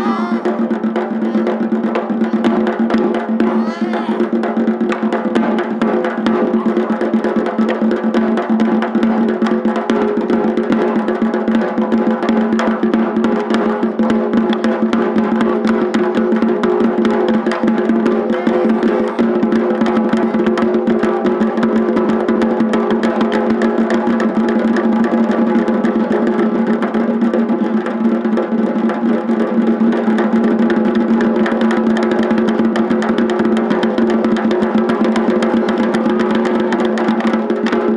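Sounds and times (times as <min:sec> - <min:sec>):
taiko drums beaten fast: 0:00.0 - 0:37.9.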